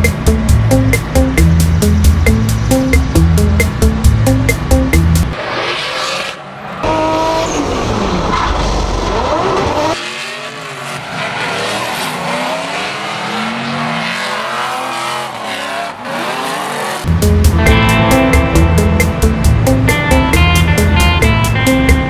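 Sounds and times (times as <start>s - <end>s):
car engine revving: 0.2s - 21.0s.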